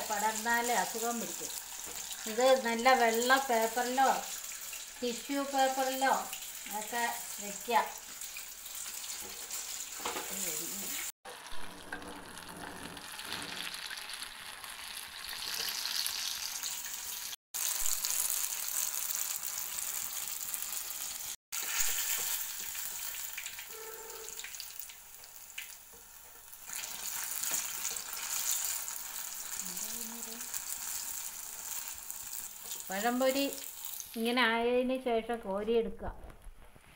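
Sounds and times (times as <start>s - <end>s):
deep-frying sizzle: 0.0s - 34.2s.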